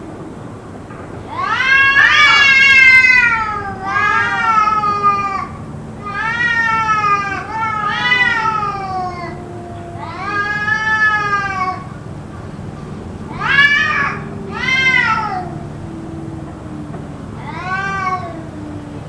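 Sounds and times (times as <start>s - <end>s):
low drawn-out moaning: 0.0s - 19.0s
cats yowling: 1.2s - 19.0s.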